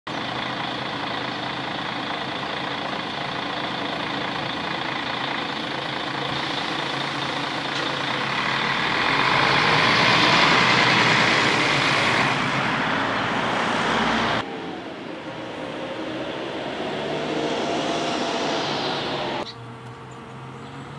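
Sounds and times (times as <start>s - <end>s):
rushing outdoor noise: 0.1s - 20.9s.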